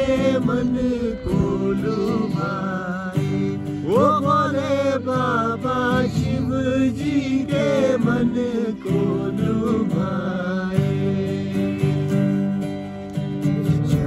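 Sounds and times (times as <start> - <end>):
man singing: 0.0 - 12.4, 13.6 - 14.0
acoustic guitar strumming: 0.0 - 14.0.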